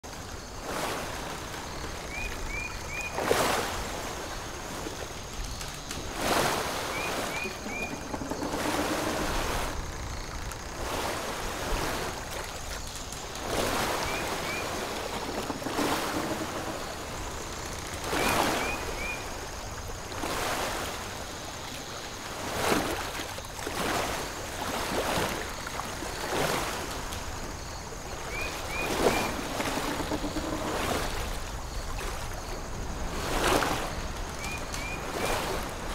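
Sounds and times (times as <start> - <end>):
waves washing onto beach: 0.0 - 35.9.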